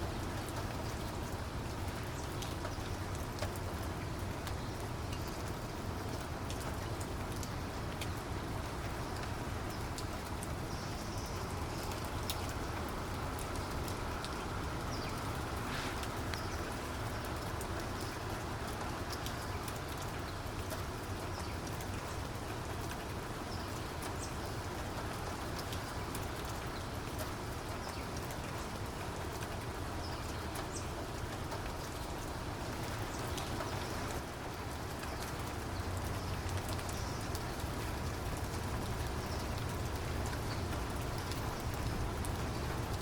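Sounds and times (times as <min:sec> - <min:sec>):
raindrops ticking: 0:00.0 - 0:43.0
steady rainfall: 0:00.0 - 0:43.0.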